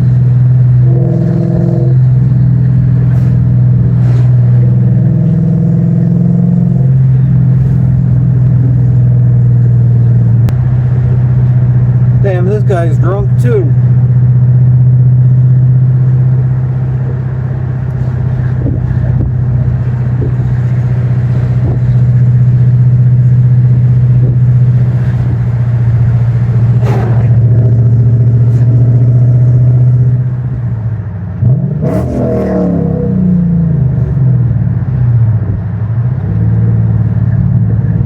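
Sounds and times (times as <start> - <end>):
car engine drone from cabin: 0.0 - 38.0.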